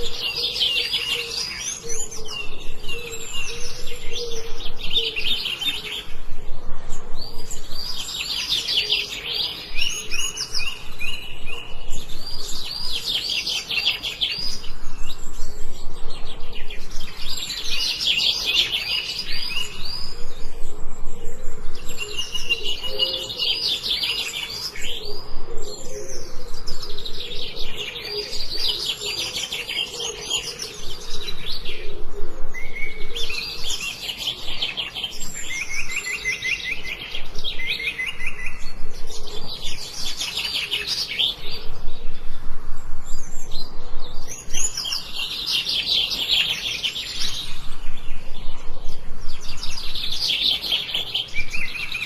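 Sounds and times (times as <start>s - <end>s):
songbirds chirping: 0.0s - 52.0s.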